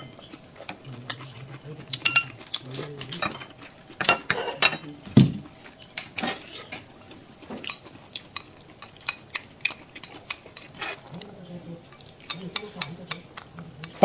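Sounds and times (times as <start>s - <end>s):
utensils clicking and scraping dishes: 0.0s - 5.0s, 5.7s - 14.0s.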